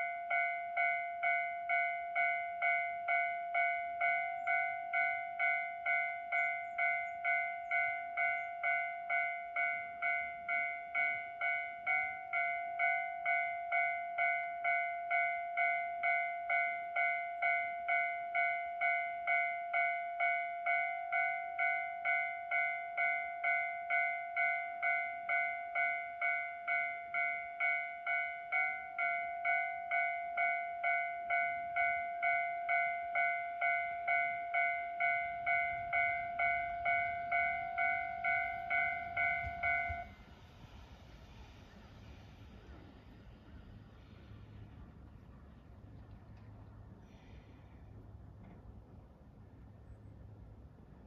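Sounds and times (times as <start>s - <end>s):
level-crossing alarm bell ringing: 0.0s - 42.5s.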